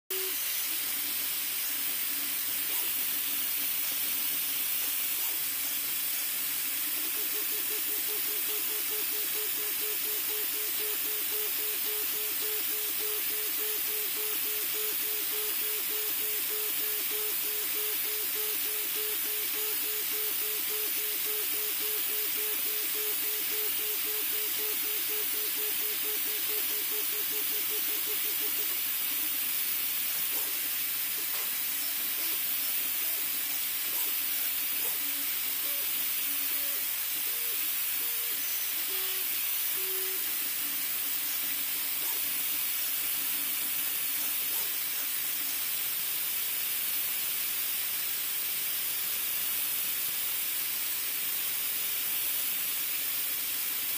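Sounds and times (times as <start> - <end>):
stepper motors singing: 0.1 - 44.6
cooling fans hissing: 0.1 - 53.9.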